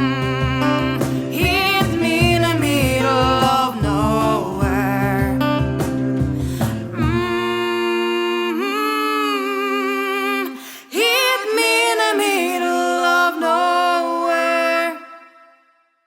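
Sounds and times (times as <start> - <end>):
women singing long held notes: 0.0 - 15.6.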